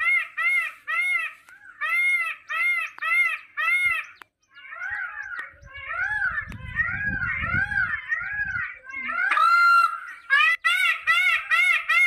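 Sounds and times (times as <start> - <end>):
peafowl calling: 0.0 - 12.0.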